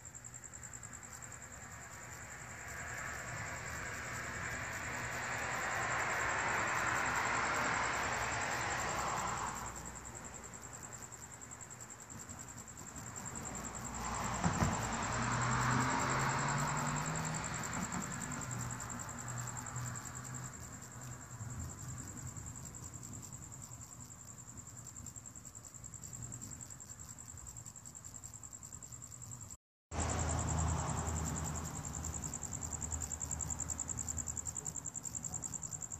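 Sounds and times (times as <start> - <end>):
crickets chirring: 0.0 - 35.9.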